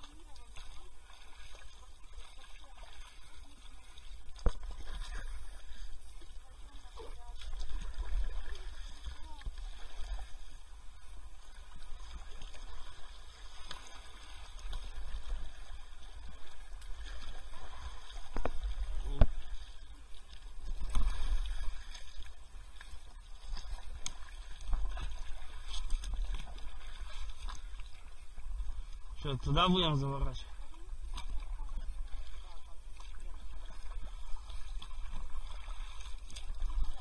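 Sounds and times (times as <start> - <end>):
paddles splashing in water: 0.0 - 37.0.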